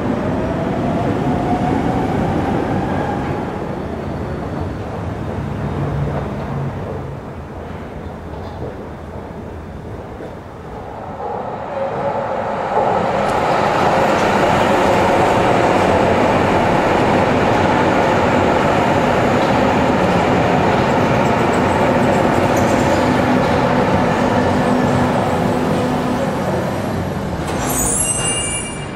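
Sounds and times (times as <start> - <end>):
train wheels running on rails: 0.2 - 28.9.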